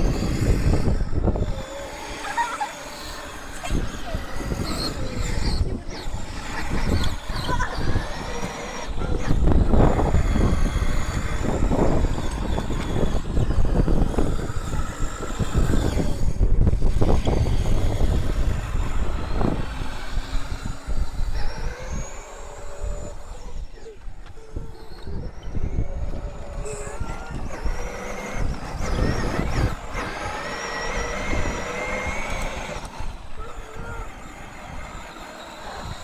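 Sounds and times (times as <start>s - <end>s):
electric motor whining: 0.0s - 36.0s
heavy uneven low rumble: 0.0s - 36.0s.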